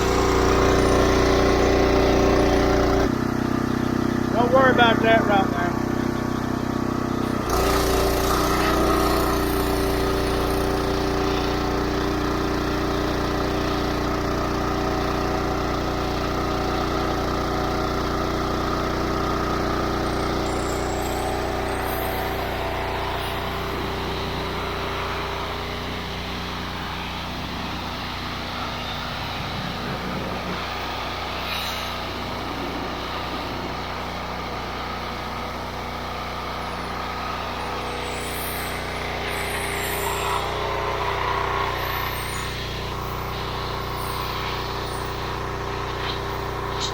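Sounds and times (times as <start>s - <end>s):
pressure washer engine running: 0.0s - 46.9s.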